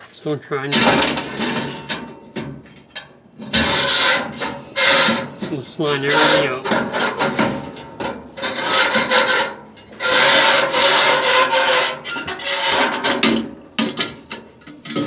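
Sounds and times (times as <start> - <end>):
metal scraping and rubbing: 0.6 - 14.4.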